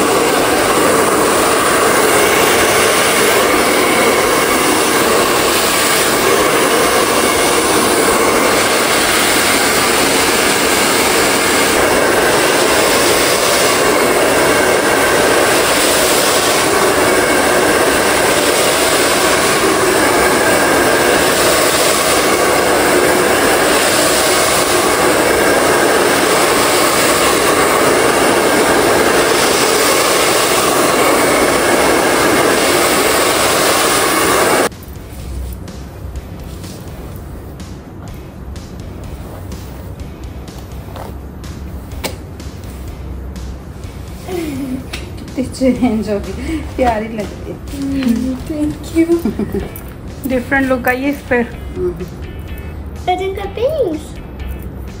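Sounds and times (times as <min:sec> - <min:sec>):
hair dryer blowing: 0:00.0 - 0:52.2.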